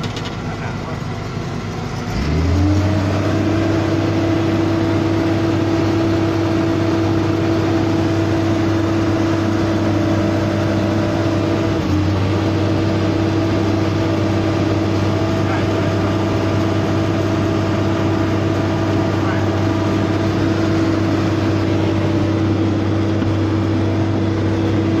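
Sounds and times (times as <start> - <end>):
paving machine engine revving: 0.0 - 25.0.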